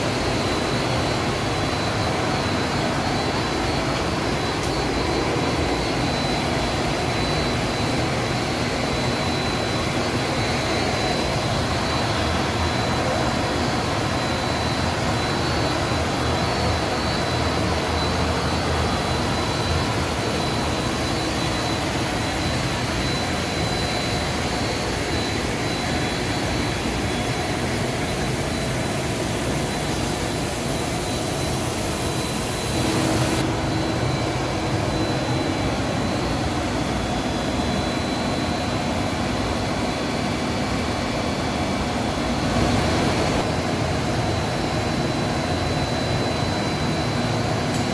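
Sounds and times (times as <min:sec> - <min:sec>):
thin high whine: 0:00.0 - 0:47.9.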